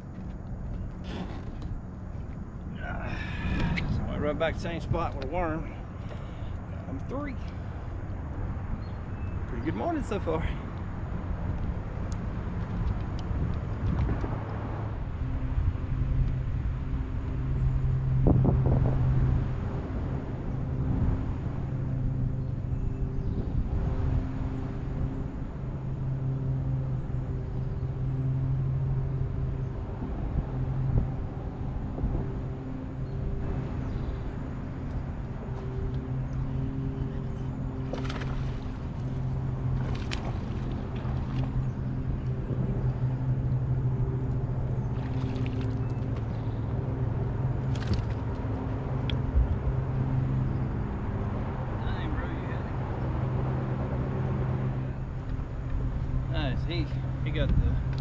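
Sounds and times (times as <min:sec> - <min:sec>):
electric trolling motor humming: 0:09.7 - 0:58.0.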